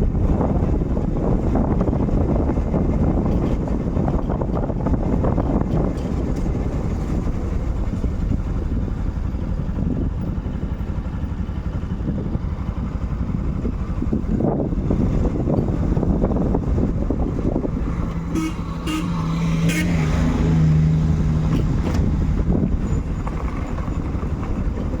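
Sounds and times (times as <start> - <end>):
motorcycle engine rumbling: 0.0 - 25.0.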